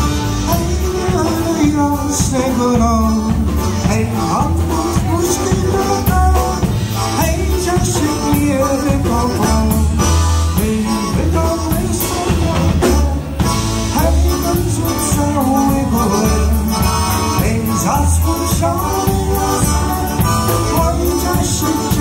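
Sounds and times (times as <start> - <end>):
accordion: 0.0 - 22.0
drums: 0.0 - 22.0
electric bass: 0.0 - 22.0
person singing: 0.0 - 22.0.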